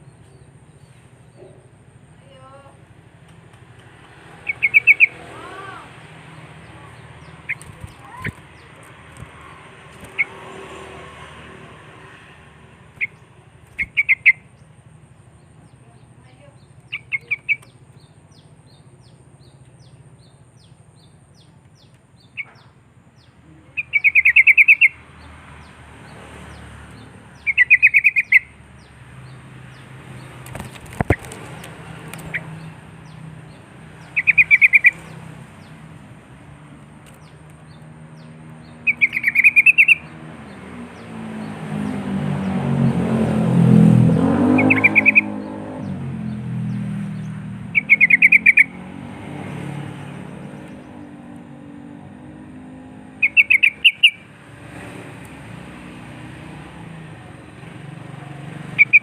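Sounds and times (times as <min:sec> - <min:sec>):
bird song: 0:00.0 - 0:59.0.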